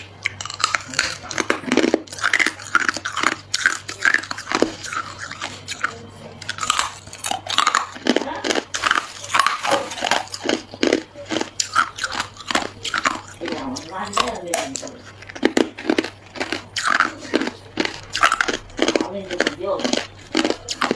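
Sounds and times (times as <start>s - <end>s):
ice cubes crunching between teeth: 0.0s - 20.9s.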